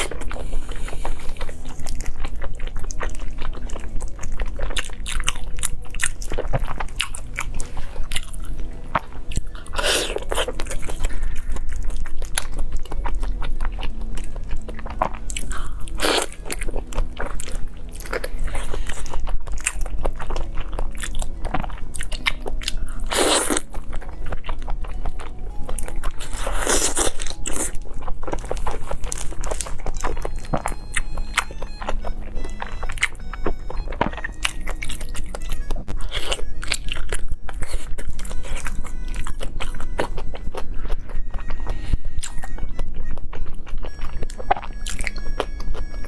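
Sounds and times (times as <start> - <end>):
chewing crunchy fried food: 0.0 - 46.0.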